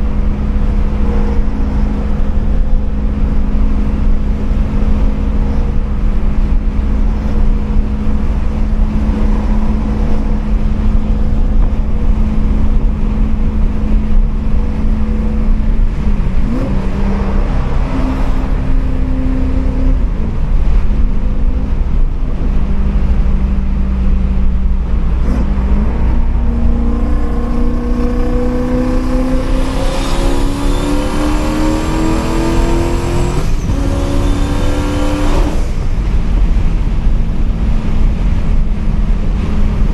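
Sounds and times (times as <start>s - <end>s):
car engine accelerating: 0.0s - 39.9s
turbo whine: 0.0s - 39.9s.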